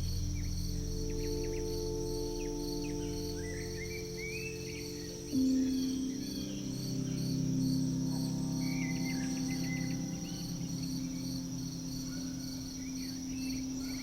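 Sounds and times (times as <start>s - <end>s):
ambient music drone: 0.0s - 14.0s
crickets chirping: 0.0s - 14.0s.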